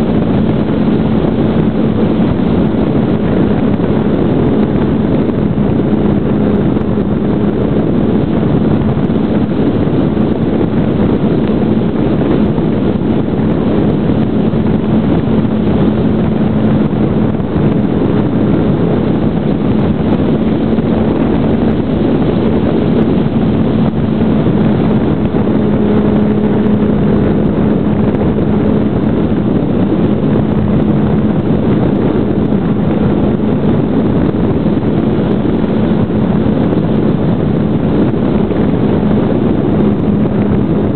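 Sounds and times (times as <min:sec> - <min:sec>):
electric motor and propeller hum: 0:00.0 - 0:40.9
wind rush over microphone: 0:00.0 - 0:40.9.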